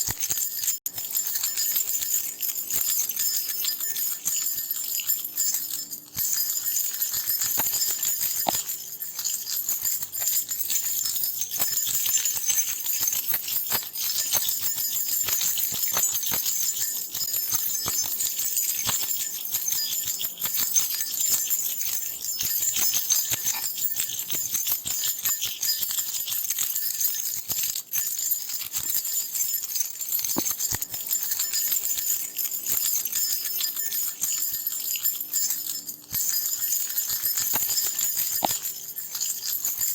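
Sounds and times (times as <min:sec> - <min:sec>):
metal keys jingling: 0:00.0 - 0:39.9.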